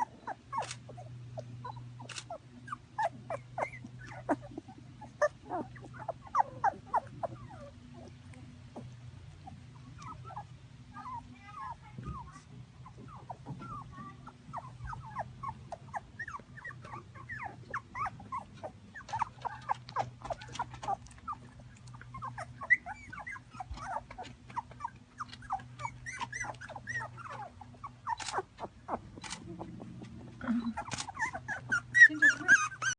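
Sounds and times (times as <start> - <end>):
dog whimpering: 0.0 - 32.9
steady low hum: 0.0 - 32.9.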